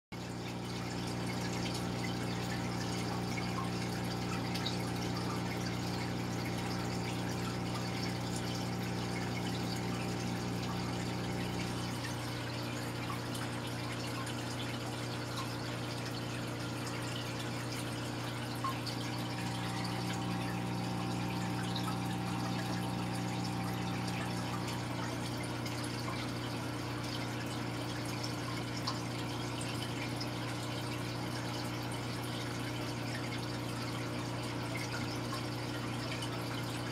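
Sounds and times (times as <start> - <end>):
aquarium pump humming: 0.2 - 36.9
bubbling water trickling: 0.2 - 36.9.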